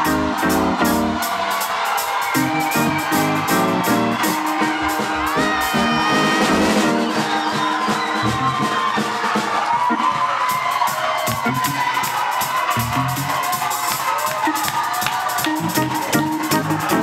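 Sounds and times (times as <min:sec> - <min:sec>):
upbeat live band music: 0:00.0 - 0:17.0.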